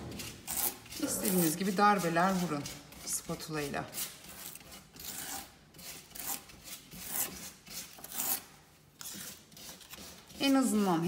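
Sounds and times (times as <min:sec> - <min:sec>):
metal spatula scraping paste: 0:00.0 - 0:11.0.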